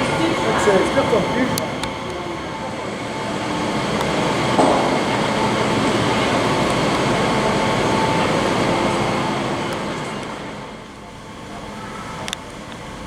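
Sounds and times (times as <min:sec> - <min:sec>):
faint steady whine: 0:00.0 - 0:13.0
train rumbling on rails: 0:00.0 - 0:13.0.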